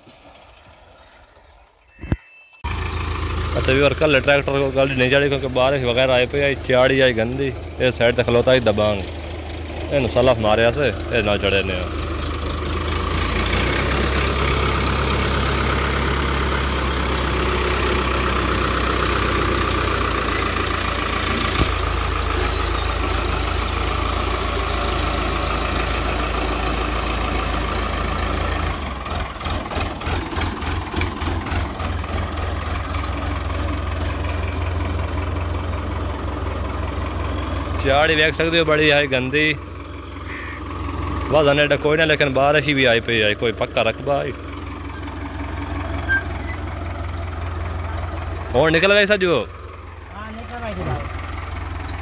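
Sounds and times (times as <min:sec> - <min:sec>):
diesel tractor engines running: 0:00.0 - 0:52.0.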